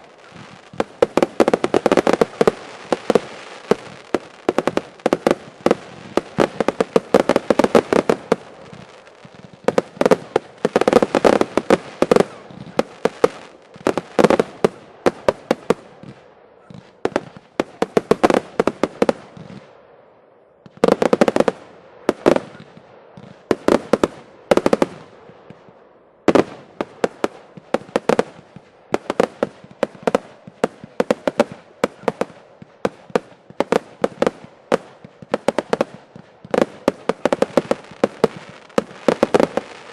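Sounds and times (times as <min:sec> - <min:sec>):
fireworks bursts: 0:00.0 - 0:20.0, 0:20.6 - 0:39.9.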